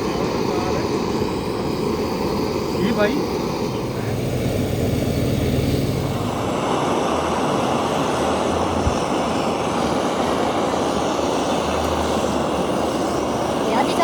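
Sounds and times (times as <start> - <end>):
low hum: 0.0 - 13.7
loud mechanical roar: 0.0 - 14.0.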